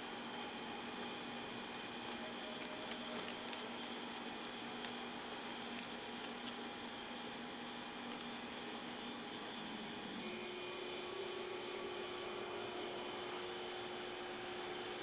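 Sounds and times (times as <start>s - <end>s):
room tone hum and hiss: 0.0s - 15.0s.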